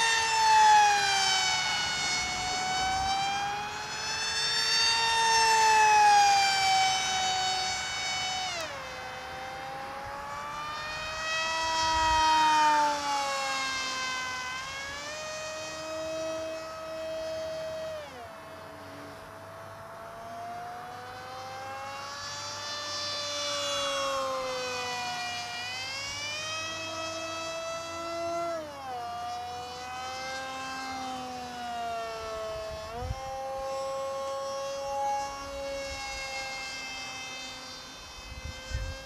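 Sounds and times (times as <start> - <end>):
model jet propeller whining: 0.0 - 39.0.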